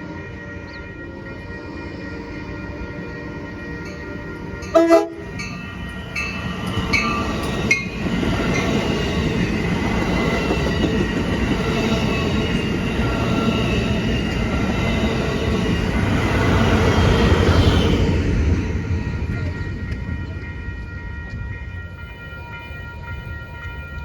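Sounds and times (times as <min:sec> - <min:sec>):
train rumbling along rails: 0:00.0 - 0:24.0.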